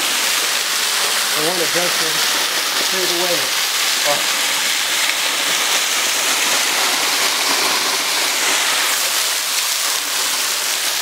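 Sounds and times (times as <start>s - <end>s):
waterfall splattering onto rocks: 0.0s - 11.0s.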